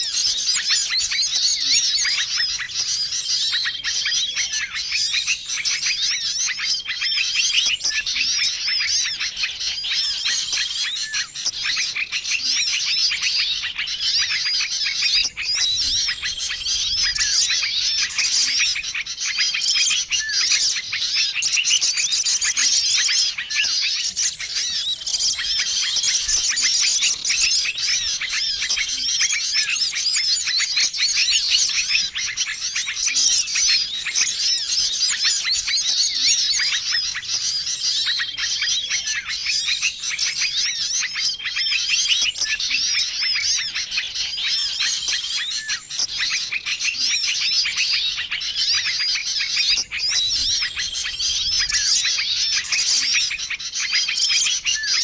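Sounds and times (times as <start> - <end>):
songbirds chirping chorus: 0.0 - 55.0.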